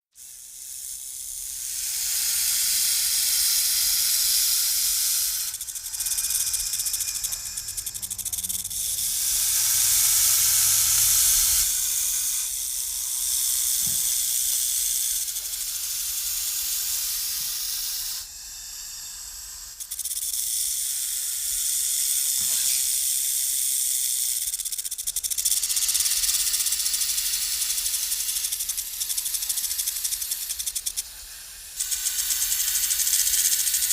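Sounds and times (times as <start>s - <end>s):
snake hissing: 0.2s - 33.9s.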